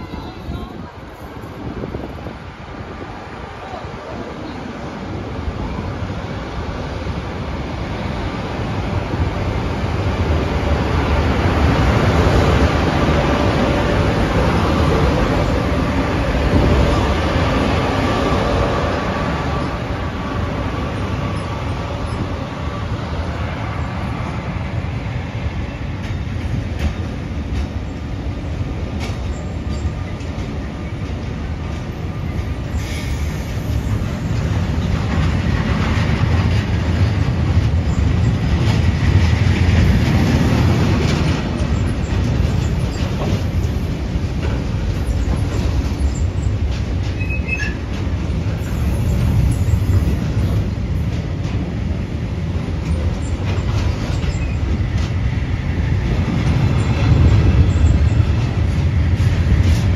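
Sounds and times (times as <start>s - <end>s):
train running past: 0.0s - 59.9s.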